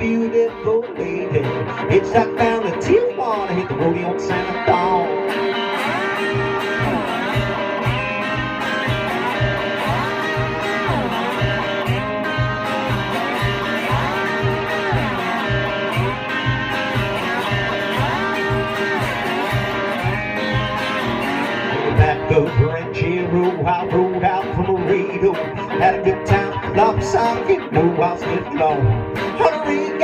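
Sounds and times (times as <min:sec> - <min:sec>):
sliding guitar lead: 0:00.0 - 0:30.0
steady beat: 0:01.4 - 0:23.9, 0:24.5 - 0:29.7.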